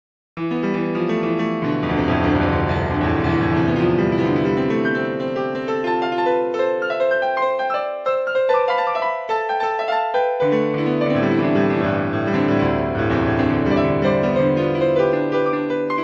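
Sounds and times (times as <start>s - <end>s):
solo piano music: 0.4s - 16.0s.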